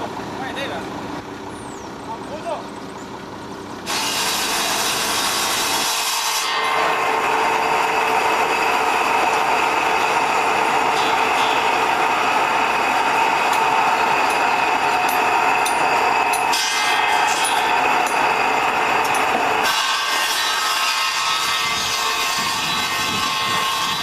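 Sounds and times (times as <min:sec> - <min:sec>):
construction machinery running: 0:00.0 - 0:24.0.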